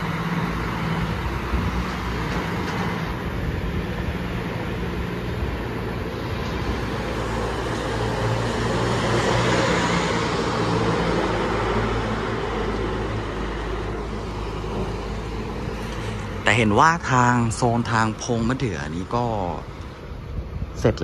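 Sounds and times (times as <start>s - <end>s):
diesel engine running: 0.0s - 20.8s.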